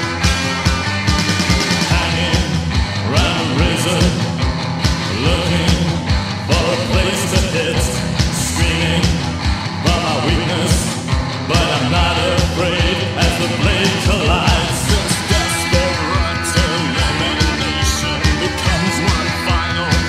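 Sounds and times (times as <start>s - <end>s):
rock song with singing: 0.0s - 20.0s
steady drum beat: 0.0s - 20.0s.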